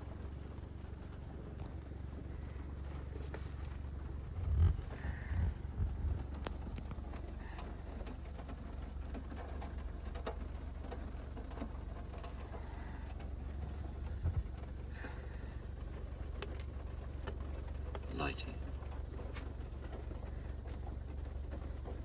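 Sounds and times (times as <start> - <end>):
rain on car roof: 0.0 - 22.0
steady low hum: 0.0 - 22.0.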